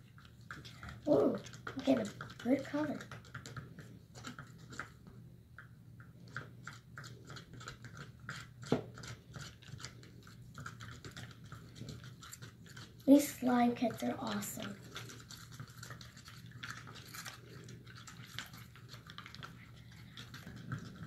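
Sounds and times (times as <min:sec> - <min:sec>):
slime squelching: 0:00.0 - 0:21.0.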